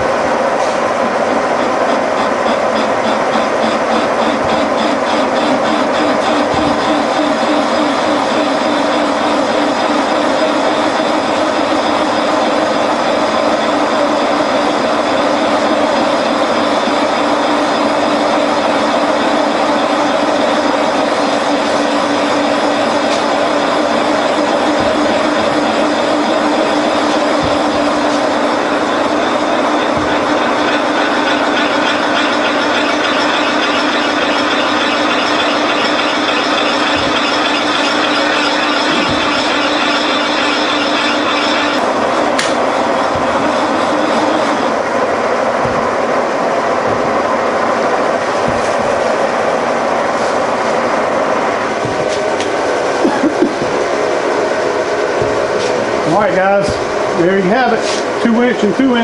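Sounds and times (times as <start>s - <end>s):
machine whirring: 0.0s - 59.0s.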